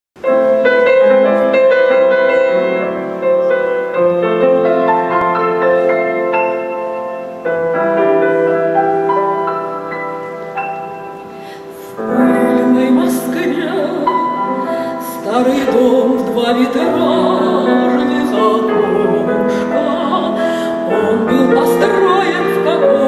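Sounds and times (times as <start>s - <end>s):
grand piano chords: 0.2s - 23.0s.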